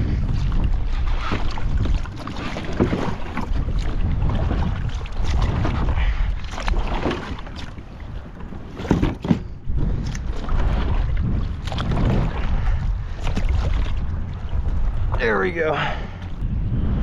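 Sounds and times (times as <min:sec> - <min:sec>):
wind buffeting microphone: 0:00.0 - 0:17.0
paddle splashing in water: 0:00.1 - 0:15.2.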